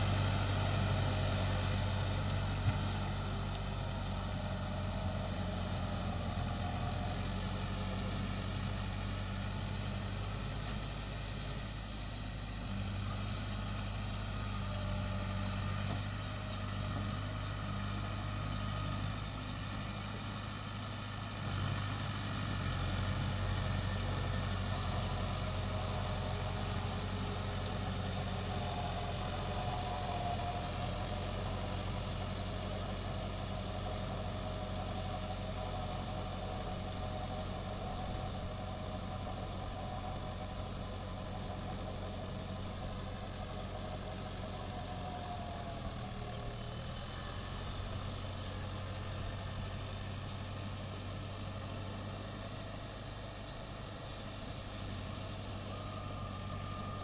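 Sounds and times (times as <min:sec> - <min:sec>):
faint whine: 0:00.0 - 0:57.0
tractor diesel engine running: 0:00.0 - 0:57.0.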